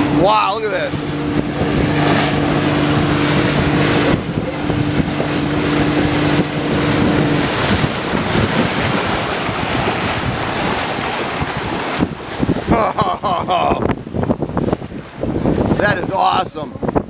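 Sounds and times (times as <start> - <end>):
motorboat engine droning: 0.0 - 17.0
rushing water: 0.0 - 17.0
wind buffeting microphone: 0.0 - 17.0.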